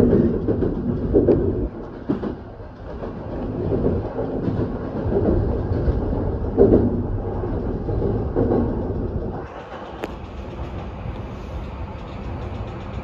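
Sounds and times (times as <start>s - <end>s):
train cab rumble: 0.0s - 13.0s.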